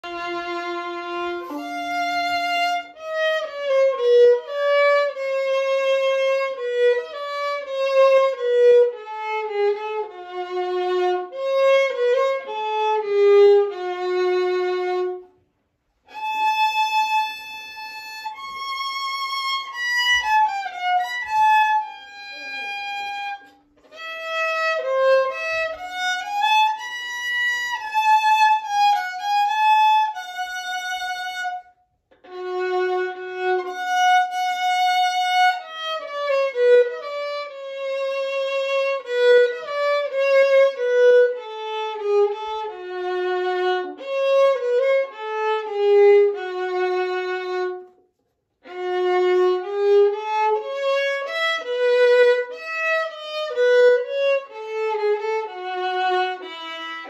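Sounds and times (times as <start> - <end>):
solo violin melody: 0.0 - 57.0.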